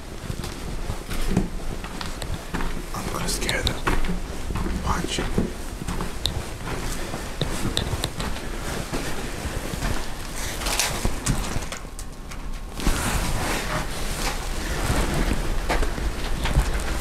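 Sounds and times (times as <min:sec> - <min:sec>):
microphone handling rustle: 0:00.0 - 0:11.8, 0:12.7 - 0:17.0.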